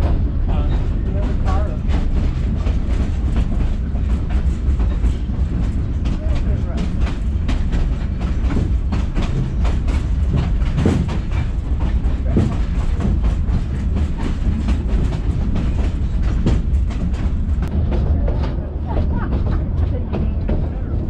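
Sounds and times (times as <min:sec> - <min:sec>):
train coach rumble: 0:00.0 - 0:21.0.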